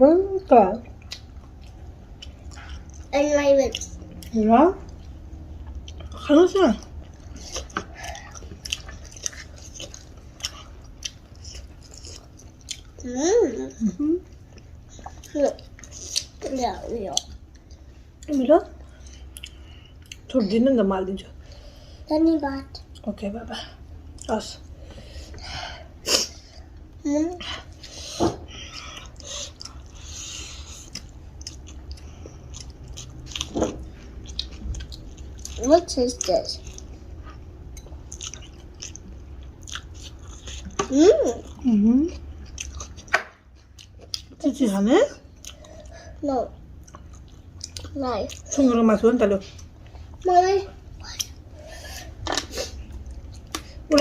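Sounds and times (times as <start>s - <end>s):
chewing and mouth sounds: 0.8s - 13.0s, 13.7s - 20.3s, 26.8s - 44.4s, 45.2s - 48.8s, 49.5s - 54.0s.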